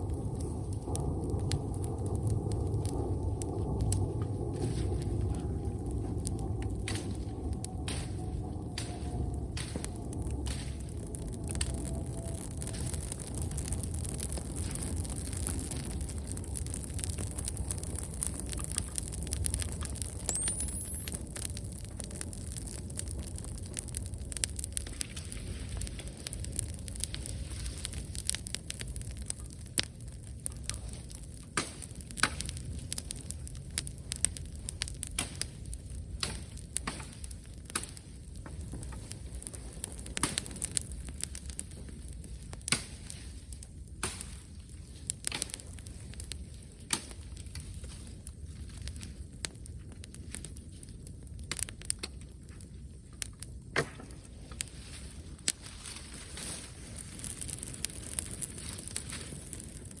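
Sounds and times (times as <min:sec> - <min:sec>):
campfire crackling and popping: 0:00.0 - 1:00.0
low steady rumble: 0:00.0 - 1:00.0.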